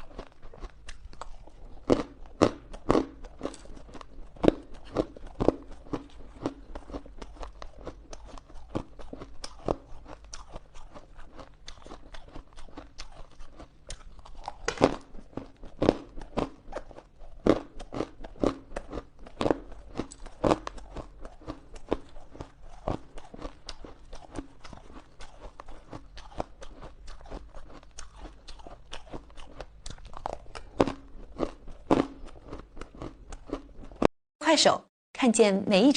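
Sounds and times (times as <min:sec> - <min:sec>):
ice being chewed: 0:00.0 - 0:34.1.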